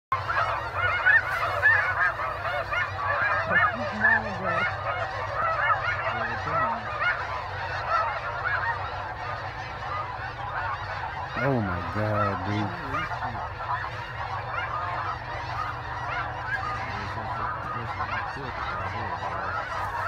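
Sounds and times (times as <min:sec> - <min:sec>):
geese honking: 0:00.1 - 0:20.0.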